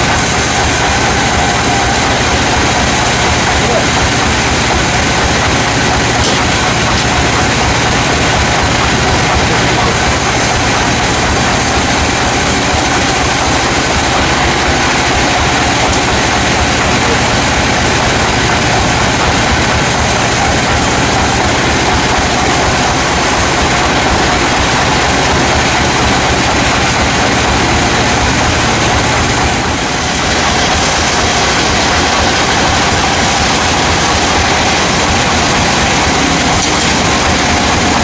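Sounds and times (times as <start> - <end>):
sawmill machinery running: 0.0 - 38.0.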